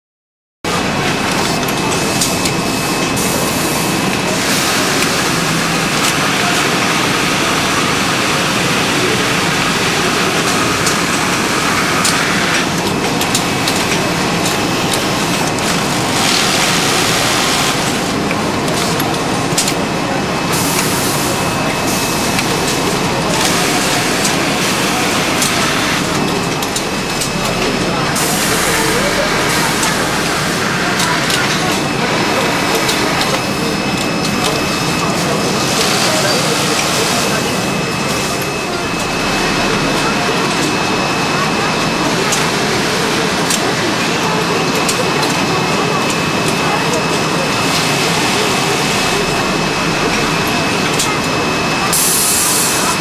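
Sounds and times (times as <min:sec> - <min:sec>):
sewing machine whirring: 0:00.7 - 0:53.0.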